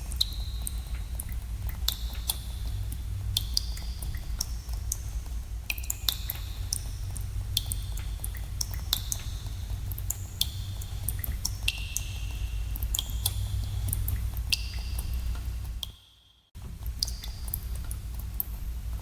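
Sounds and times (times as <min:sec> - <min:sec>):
low hum: 0:00.0 - 0:15.9
water drops dripping in cave: 0:00.0 - 0:19.0.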